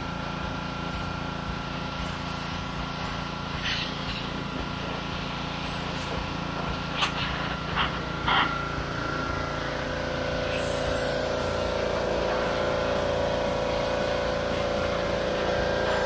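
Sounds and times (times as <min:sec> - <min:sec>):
pressure washer engine running: 0:00.0 - 0:16.0
high-pressure water jet hissing: 0:00.8 - 0:16.0.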